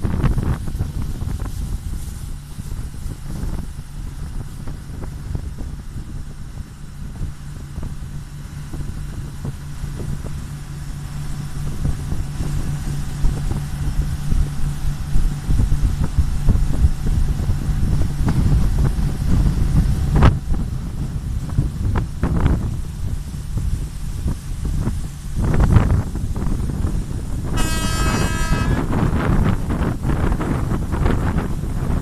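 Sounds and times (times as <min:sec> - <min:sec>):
diesel engine running: 0:00.0 - 0:32.0
wind buffeting microphone: 0:00.0 - 0:32.0.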